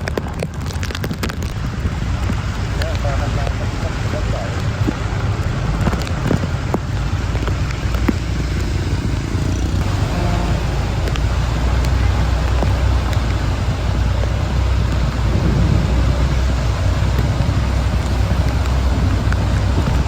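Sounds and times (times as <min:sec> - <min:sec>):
heavy rain: 0:00.0 - 0:20.0
low rumble of vehicles: 0:00.0 - 0:20.0
raindrop ticks: 0:00.0 - 0:20.0
wind: 0:00.0 - 0:20.0.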